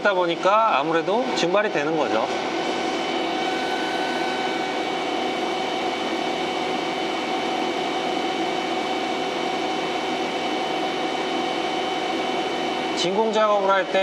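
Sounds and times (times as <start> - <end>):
vacuum pump humming: 0.0 - 14.0.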